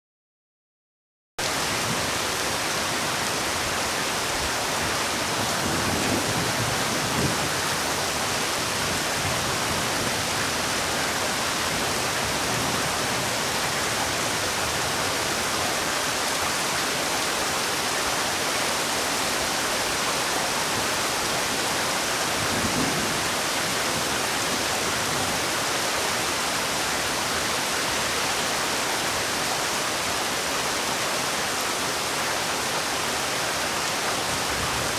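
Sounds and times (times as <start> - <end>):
heavy rain: 1.4 - 34.9.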